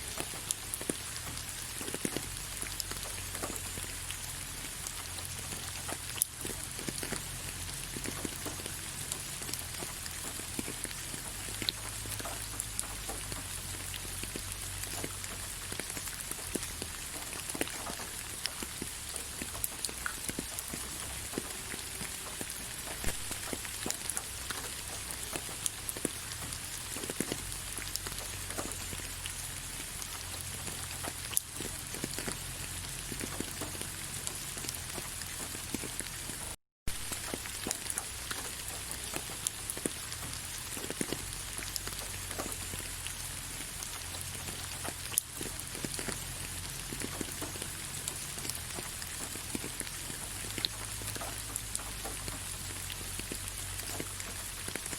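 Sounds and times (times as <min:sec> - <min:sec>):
rain pattering on leaves: 0:00.0 - 0:54.9
drip ticks: 0:00.1 - 0:36.5, 0:37.1 - 0:54.9.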